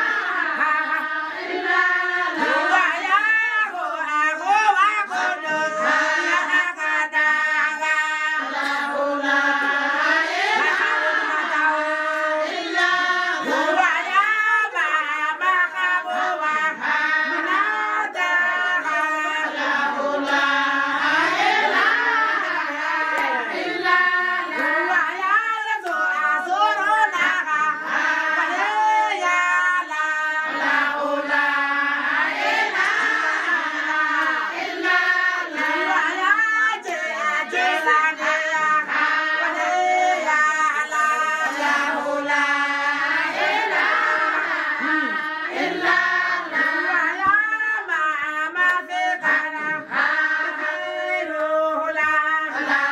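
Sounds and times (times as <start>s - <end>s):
women singing together: 0.0s - 52.9s.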